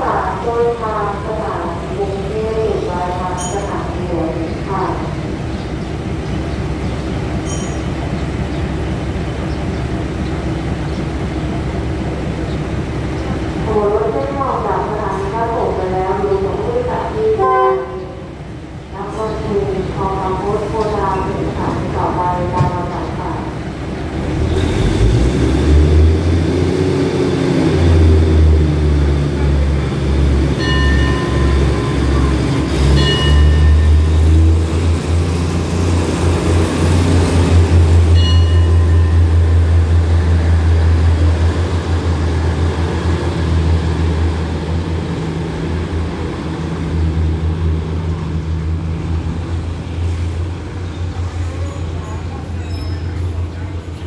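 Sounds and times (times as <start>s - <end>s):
diesel train engines running: 0.0s - 54.0s.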